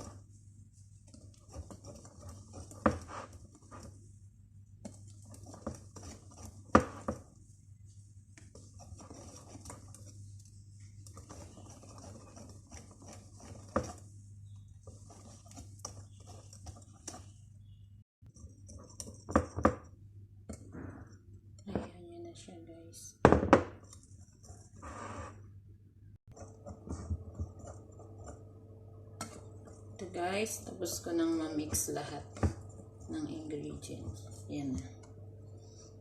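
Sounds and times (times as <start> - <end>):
batter stirred in bowl: 0.0 - 22.0, 23.4 - 25.4, 26.2 - 36.0.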